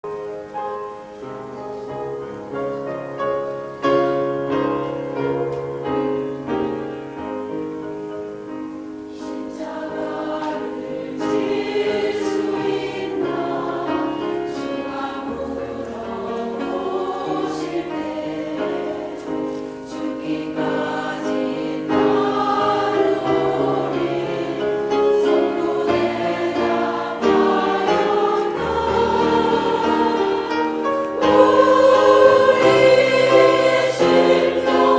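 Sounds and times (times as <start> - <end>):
choir singing sustained notes: 1.2 - 34.9.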